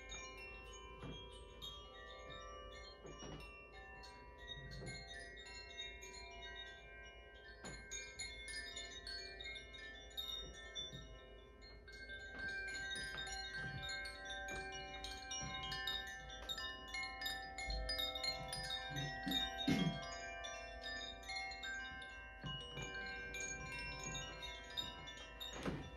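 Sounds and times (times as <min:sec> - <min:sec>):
metal chimes tinkling: 0:00.0 - 0:25.9.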